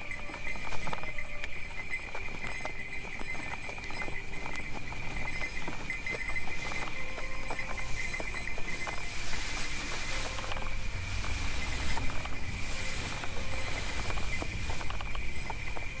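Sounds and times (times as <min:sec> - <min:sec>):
horse hooves clip-clopping: 0:00.0 - 0:16.0
sleigh bells jingling: 0:00.0 - 0:16.0.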